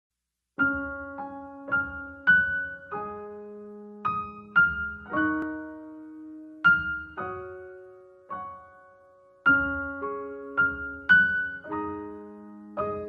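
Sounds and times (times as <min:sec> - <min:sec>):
gentle piano tune: 0:00.6 - 0:13.0.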